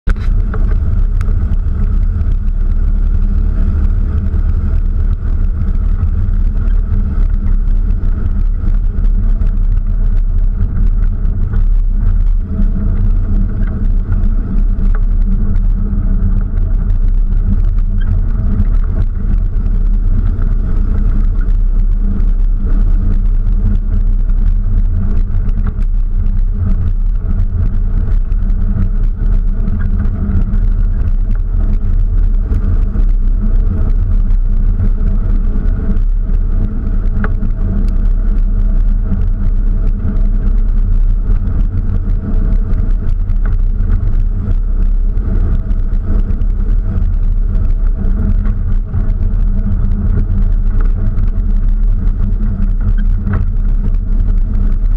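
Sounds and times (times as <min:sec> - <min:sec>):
heavy low rumble: 0:00.0 - 0:54.9
vehicle engine running: 0:00.0 - 0:54.9.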